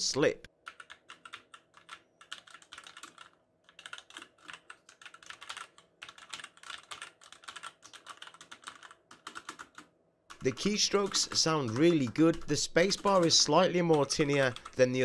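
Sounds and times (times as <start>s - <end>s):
mechanical keyboard typing: 0.6s - 15.0s.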